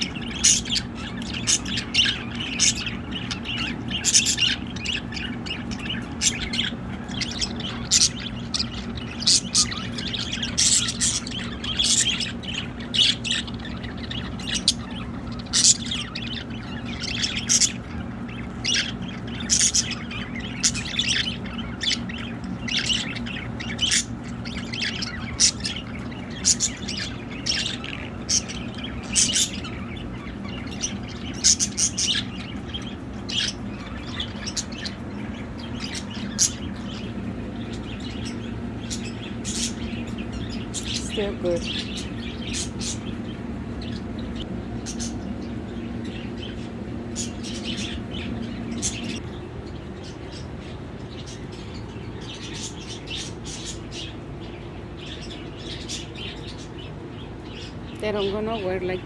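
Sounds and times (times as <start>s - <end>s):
budgerigars chirping and squawking: 0.0s - 59.0s
steady low hum: 0.0s - 59.0s.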